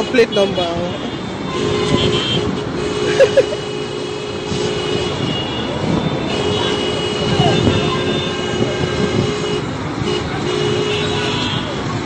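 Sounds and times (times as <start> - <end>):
traffic jam noise: 0.0 - 12.0.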